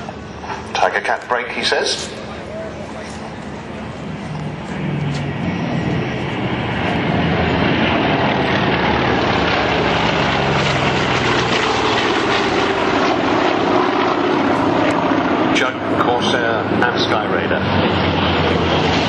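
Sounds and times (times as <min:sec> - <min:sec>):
propeller aircraft engines droning: 0:00.0 - 0:19.0.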